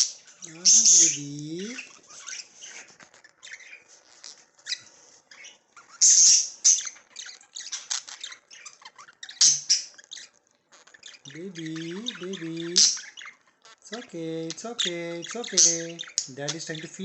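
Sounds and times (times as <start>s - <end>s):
budgerigar chicks squawking: 0.0s - 17.0s.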